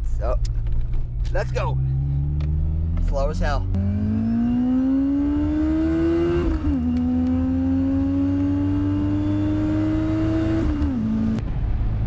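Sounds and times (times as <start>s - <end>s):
truck engine accelerating: 0.4s - 12.0s.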